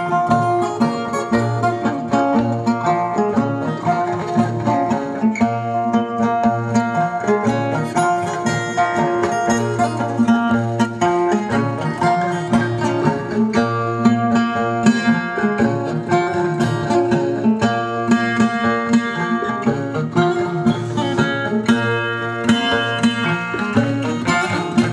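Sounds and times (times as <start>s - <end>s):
plucked string music: 0.0s - 24.9s.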